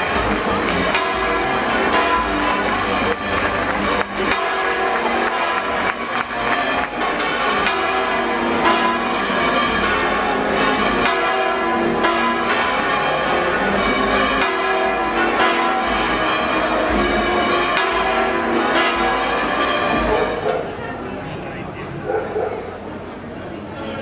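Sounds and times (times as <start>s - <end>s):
church bells pealing: 0.0s - 24.0s.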